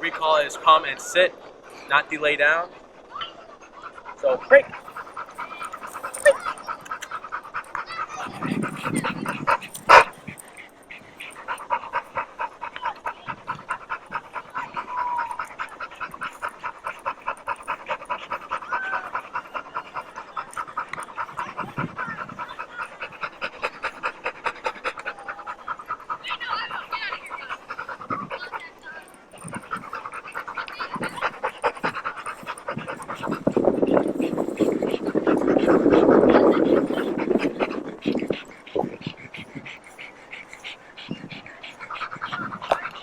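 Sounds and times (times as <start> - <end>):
dog panting: 0.0 - 43.0.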